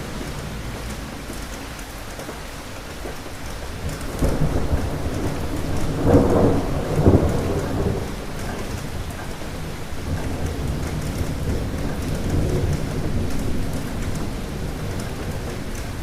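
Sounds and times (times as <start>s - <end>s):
steady rain: 0.0s - 16.0s
thunder rumbling and cracking: 0.0s - 16.0s.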